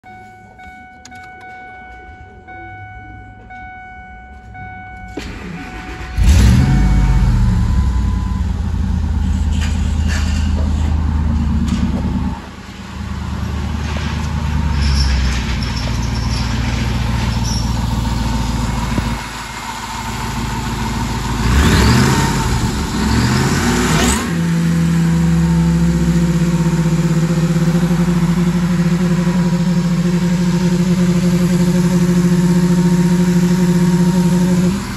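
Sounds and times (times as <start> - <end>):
engine idling: 4.3 - 34.9
engine starting and revving: 5.1 - 12.4, 13.0 - 34.9.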